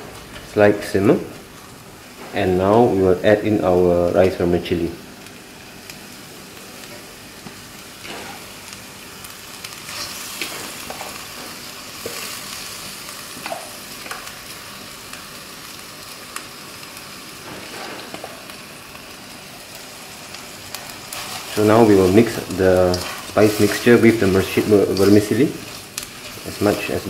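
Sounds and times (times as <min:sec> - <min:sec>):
food sizzling in a wok: 0:00.0 - 0:27.0.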